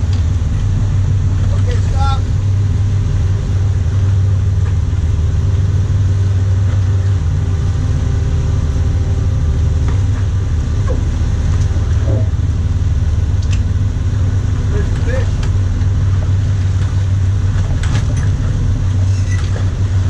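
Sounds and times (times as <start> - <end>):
boat engines rumbling: 0.0 - 20.0.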